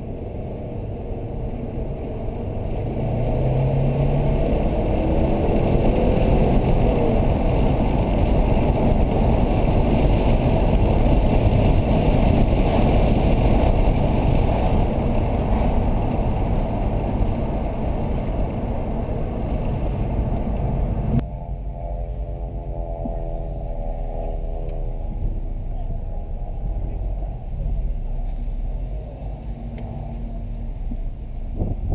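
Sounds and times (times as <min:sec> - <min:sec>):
car engine running: 0:00.0 - 0:31.9
road and wind noise in car: 0:00.0 - 0:31.9.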